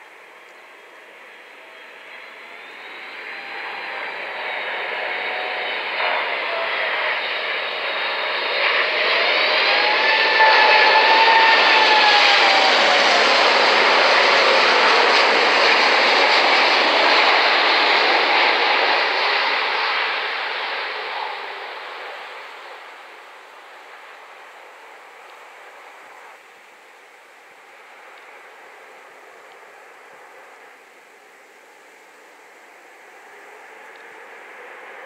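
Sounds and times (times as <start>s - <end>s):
whining jet tone: 0.0s - 26.4s, 27.7s - 35.0s
jet engines on approach: 0.0s - 35.0s.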